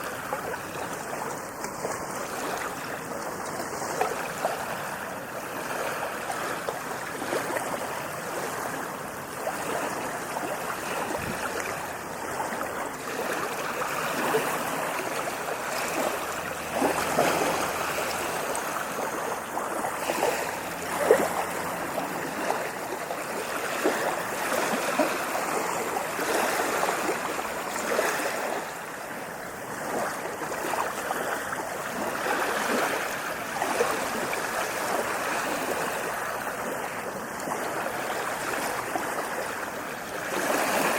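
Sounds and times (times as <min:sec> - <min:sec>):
ocean waves splashing at shore: 0:00.0 - 0:40.9.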